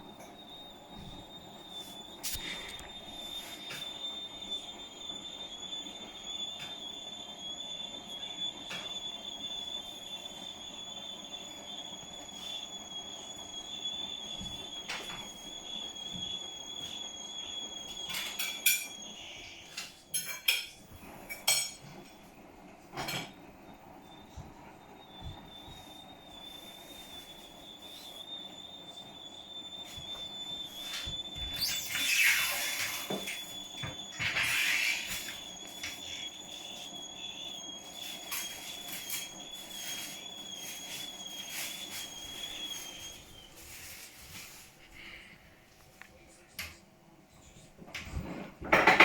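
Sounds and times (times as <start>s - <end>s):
appliance high-pitched squeaking: 0.0s - 22.3s, 22.9s - 45.3s.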